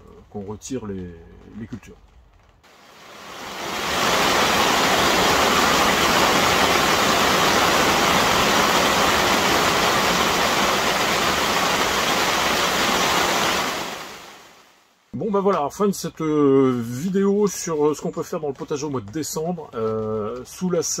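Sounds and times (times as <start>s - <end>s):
hail drumming on plastic sheeting: 0.0s - 14.6s, 18.3s - 21.0s.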